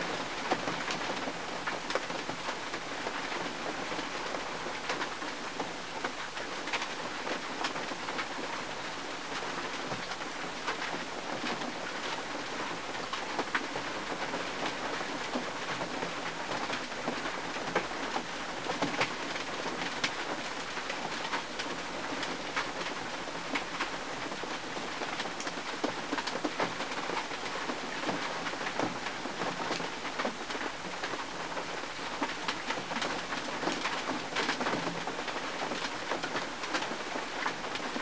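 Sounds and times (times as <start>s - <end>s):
rain on a car: 0.0s - 38.0s.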